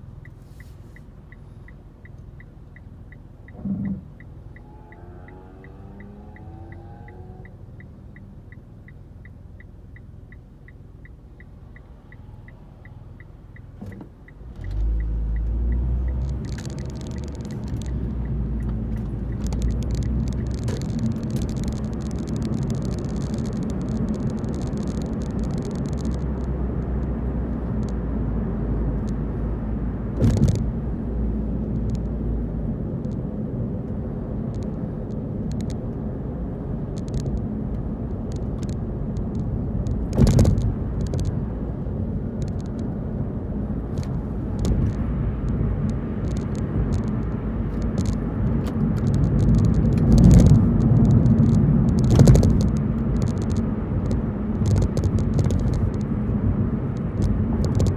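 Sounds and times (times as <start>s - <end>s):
turn indicator ticking: 0.0s - 31.0s, 31.6s - 57.9s
engine and tyre rumble: 0.0s - 57.9s.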